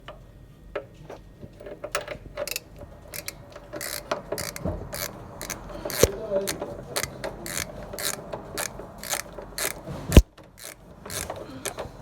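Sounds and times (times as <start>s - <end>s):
hand tools clicking on metal: 1.8s - 11.9s.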